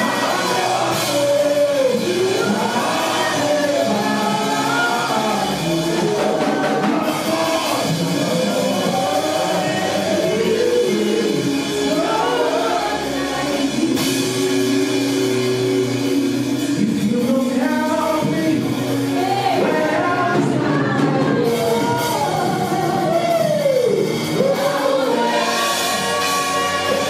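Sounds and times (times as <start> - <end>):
instrumental accompaniment: 0.0 - 27.0
voices singing worship music: 0.0 - 27.0.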